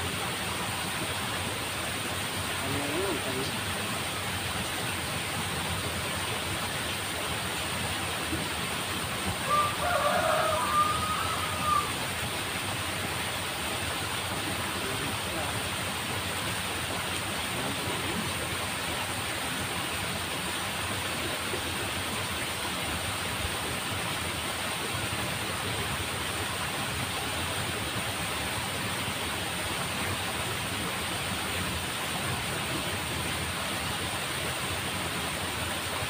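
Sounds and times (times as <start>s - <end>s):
water rushing along a ditch: 0.0s - 36.0s.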